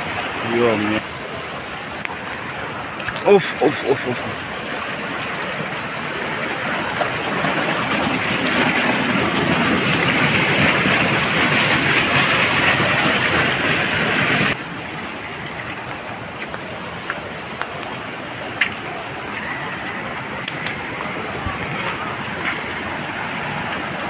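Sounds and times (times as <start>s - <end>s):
rainwater rushing: 0.0s - 24.0s.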